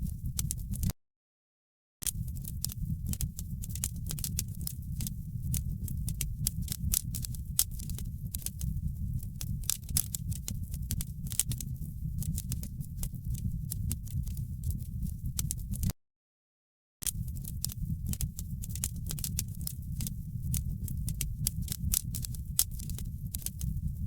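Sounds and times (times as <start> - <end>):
low fire rumble: 0.0 - 0.9, 2.1 - 15.9, 17.1 - 24.0
wood fire crackling: 2.1 - 15.9, 17.1 - 24.0.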